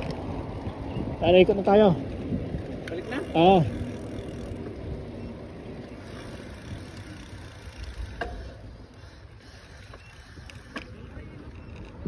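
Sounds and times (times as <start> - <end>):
bicycle tyres on asphalt: 0.0 - 12.0
wind on microphone: 0.0 - 12.0.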